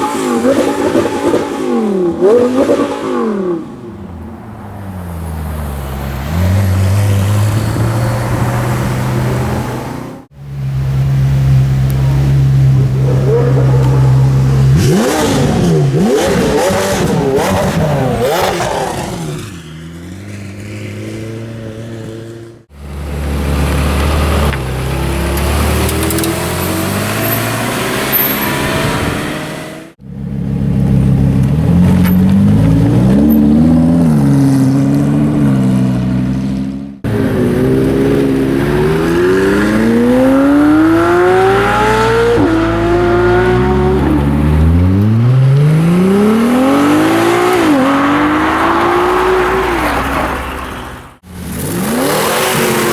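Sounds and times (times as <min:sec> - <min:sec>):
car engines revving: 0:00.0 - 0:52.9.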